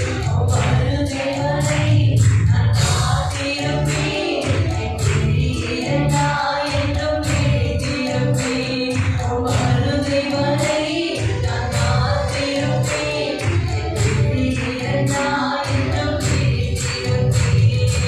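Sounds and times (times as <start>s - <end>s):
bass and percussion beat: 0.0s - 18.0s
voices singing worship song: 0.0s - 18.0s.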